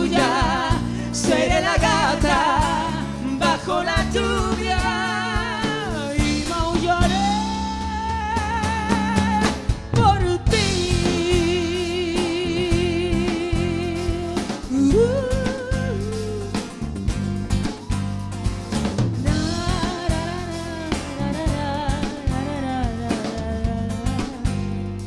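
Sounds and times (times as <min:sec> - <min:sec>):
woman singing with vibrato: 0:00.0 - 0:16.7, 0:19.2 - 0:24.7
acoustic guitar: 0:00.0 - 0:25.0
bass: 0:00.0 - 0:25.0
drum kit: 0:00.0 - 0:25.0.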